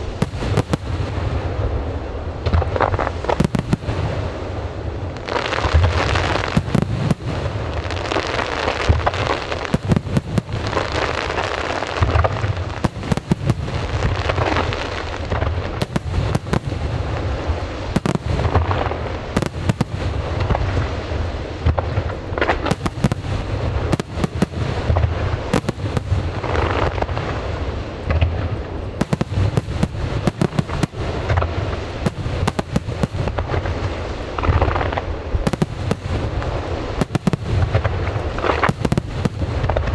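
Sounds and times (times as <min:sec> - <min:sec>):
crackling rumble: 0:00.0 - 0:39.9.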